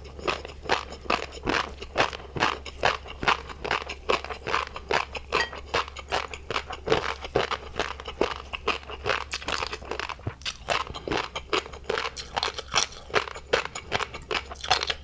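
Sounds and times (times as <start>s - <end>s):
chewing with crisp pops: 0.0s - 15.0s.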